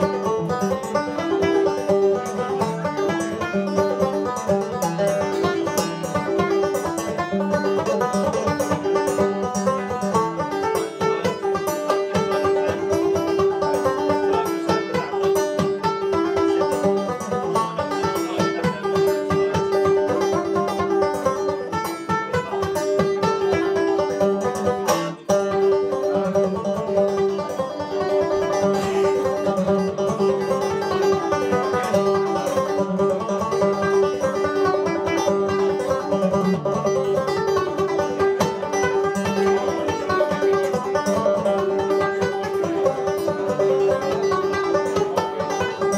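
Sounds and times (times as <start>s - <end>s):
banjo played clawhammer style: 0.0s - 45.9s.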